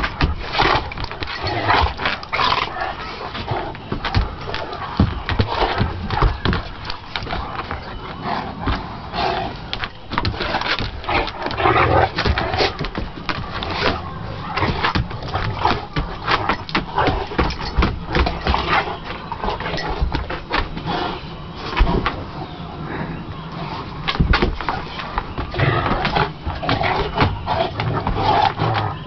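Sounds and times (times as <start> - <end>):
claws scrabbling on wooden deck: 0.0 - 22.4, 23.2 - 29.0
dogs growling: 0.0 - 29.0.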